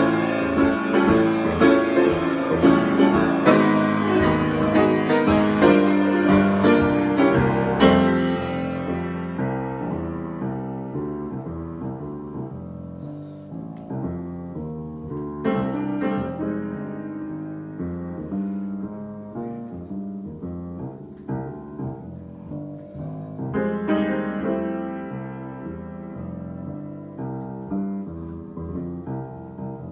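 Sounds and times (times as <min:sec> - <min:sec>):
solo piano: 0:00.0 - 0:29.9.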